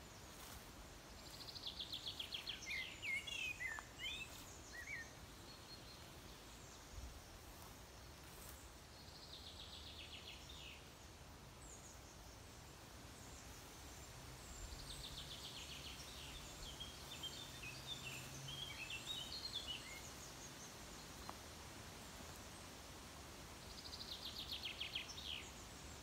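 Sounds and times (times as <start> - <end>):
faint background noise: 0.0 - 26.0.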